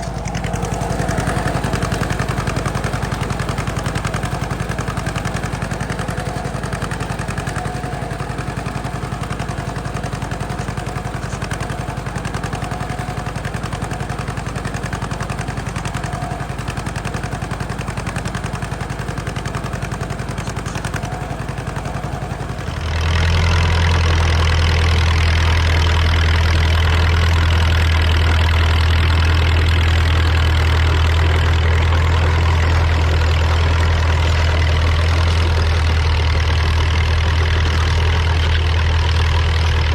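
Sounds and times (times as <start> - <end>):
deeper engine sound: 0.0 - 39.9
tractor engine running: 0.0 - 39.9.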